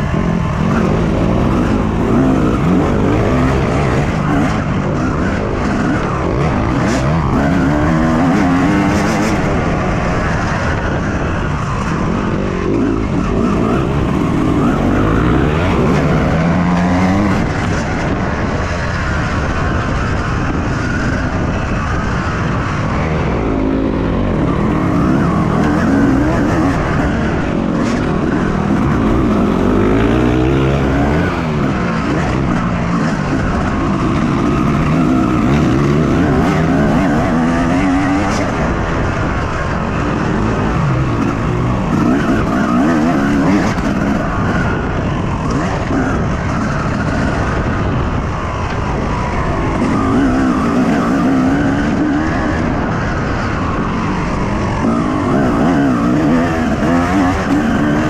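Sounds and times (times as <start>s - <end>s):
motocross engine revving: 0.0s - 19.2s, 22.4s - 58.0s.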